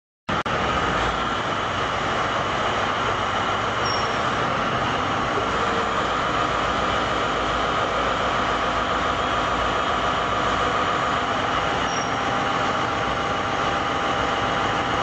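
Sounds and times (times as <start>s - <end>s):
high machinery whine: 0.3s - 15.0s
wheel loader engine drone: 0.3s - 15.0s.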